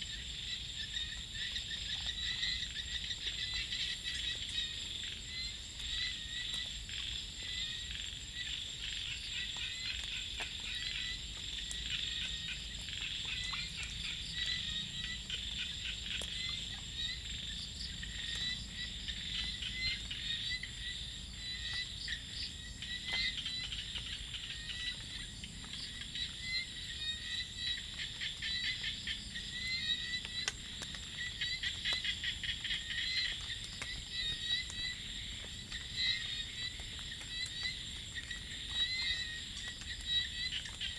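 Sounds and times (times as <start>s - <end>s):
frogs and insects chirping: 0.0s - 40.9s.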